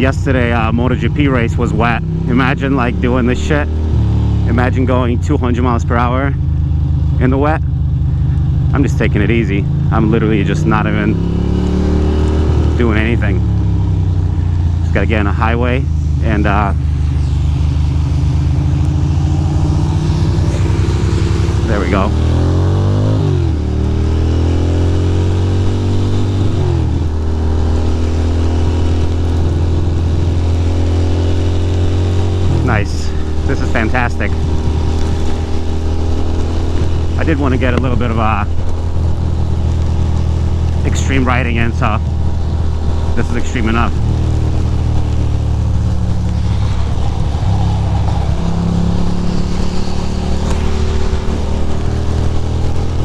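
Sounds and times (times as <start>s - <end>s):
motorcycle engine accelerating: 0.0s - 53.0s
wind and road noise: 0.0s - 53.0s
steady rushing noise: 8.0s - 53.0s.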